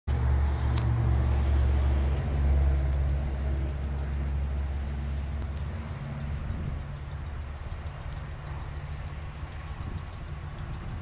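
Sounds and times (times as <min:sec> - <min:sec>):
engine idling: 0:00.1 - 0:11.0.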